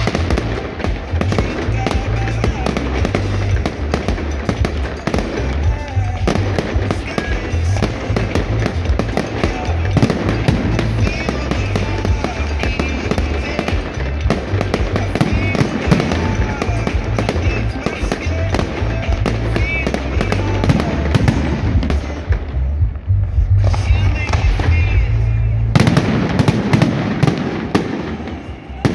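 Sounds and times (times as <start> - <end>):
fireworks bursting and crackling: 0.0 - 28.9
loud show music: 0.0 - 28.9.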